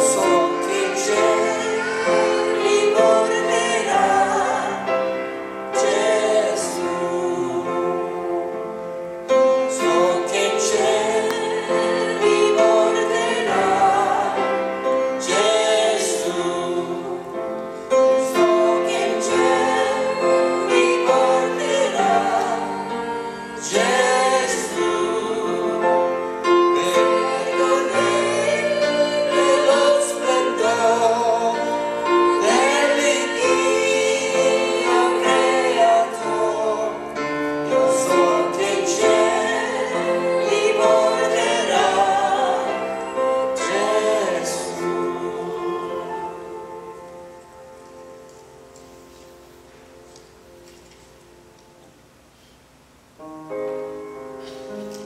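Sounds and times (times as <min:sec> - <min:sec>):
group singing a hymn: 0:00.0 - 0:48.1.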